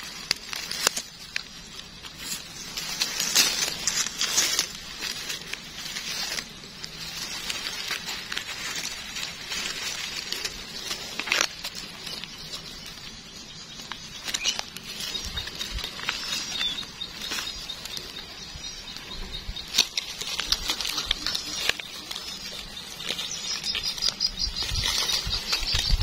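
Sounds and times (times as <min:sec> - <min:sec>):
dry leaves rustling and crackling: 0:00.0 - 0:26.0.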